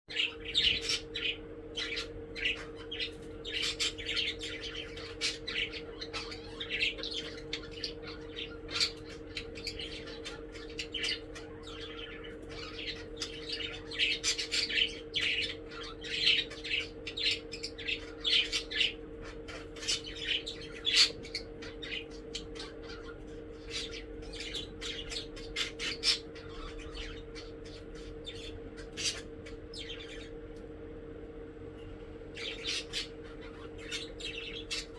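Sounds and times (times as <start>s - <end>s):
budgerigars chirping and squawking: 0.1s - 30.4s, 32.3s - 34.9s
steady low hum: 0.1s - 34.9s.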